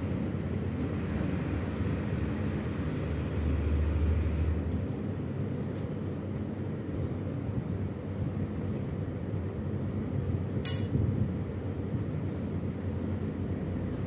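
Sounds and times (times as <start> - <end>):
low room noise rumble and hum: 0.0 - 14.0.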